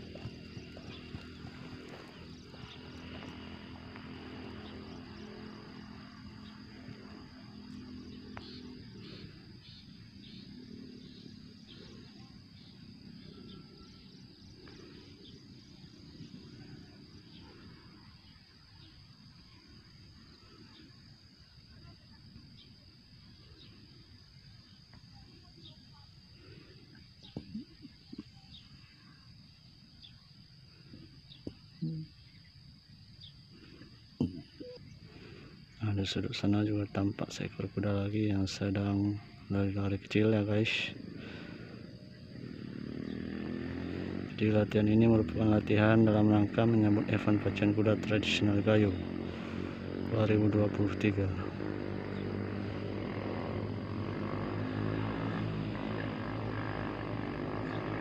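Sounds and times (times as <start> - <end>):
faint chirps: 0.0 - 58.0
high-pitched insect drone: 0.0 - 58.0.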